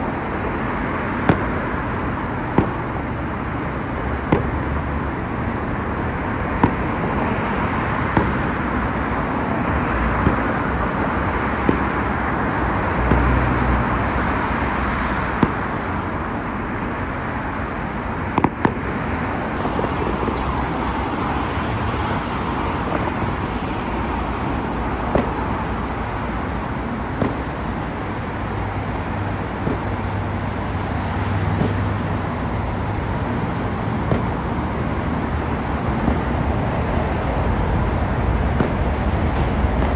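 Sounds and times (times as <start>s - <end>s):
fireworks banging: 0.0s - 5.1s, 6.2s - 39.9s
road traffic: 0.0s - 39.9s.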